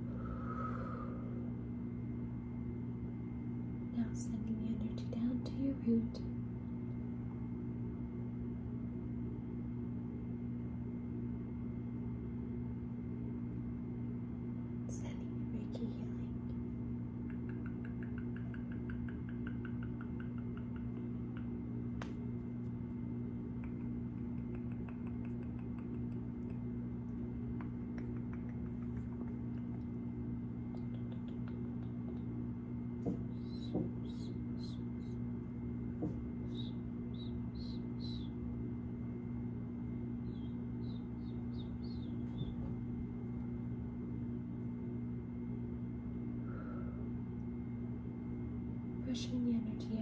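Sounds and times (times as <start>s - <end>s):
low hum: 0.0s - 50.0s.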